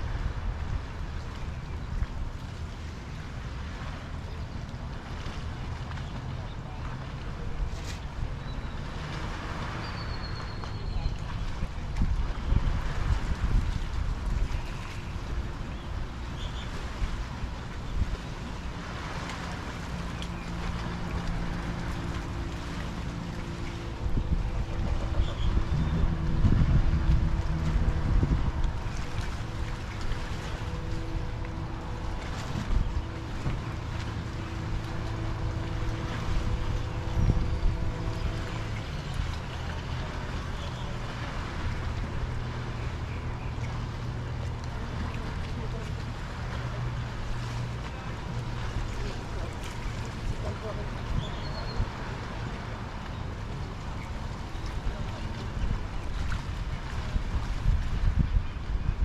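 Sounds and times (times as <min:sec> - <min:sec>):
boat engine humming: 0:00.0 - 0:59.0
small waves washing: 0:00.0 - 0:59.0
wind rumbling on microphone: 0:00.0 - 0:59.0.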